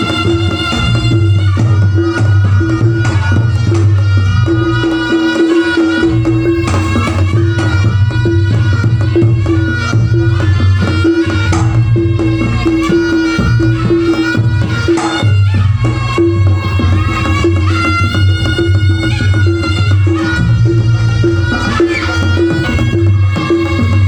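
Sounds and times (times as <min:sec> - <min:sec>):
gamelan ensemble playing: 0:00.0 - 0:24.0
hand drum strokes: 0:00.0 - 0:24.0.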